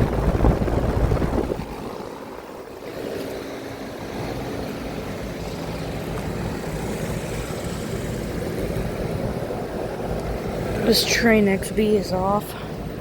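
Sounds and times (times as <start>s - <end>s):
wind on microphone: 0.0s - 10.9s
air conditioner unit humming: 0.0s - 13.0s
fan air rushing: 0.0s - 13.0s.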